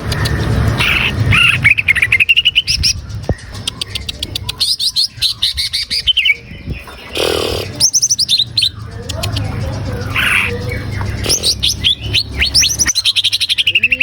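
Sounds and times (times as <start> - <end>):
bird singing sharp chirps: 0.0 - 14.0.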